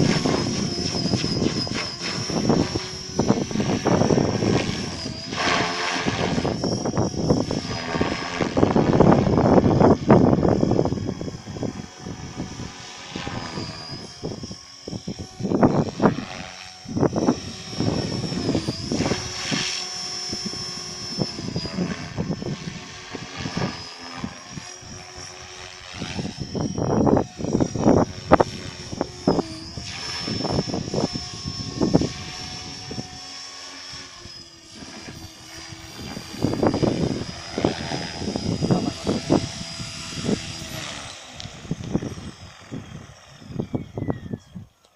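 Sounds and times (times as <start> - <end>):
helicopter motor and rotor whine: 0.0 - 44.9.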